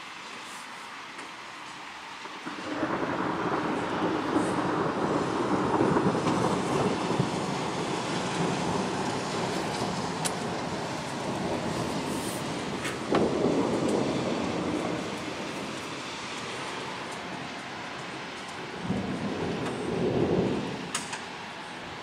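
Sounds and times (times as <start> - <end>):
thunder rumbling: 2.4 - 22.0.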